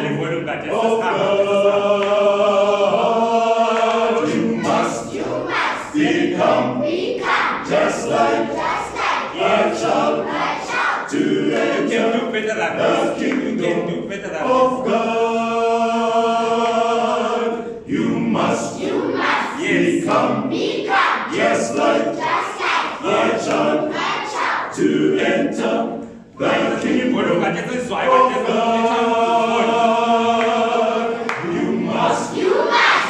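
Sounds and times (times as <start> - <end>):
a cappella choir singing: 0.0 - 33.0.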